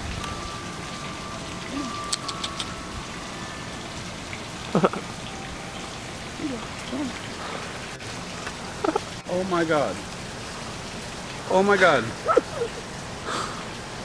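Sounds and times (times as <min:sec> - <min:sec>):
splashing water hiss: 0:00.0 - 0:14.0.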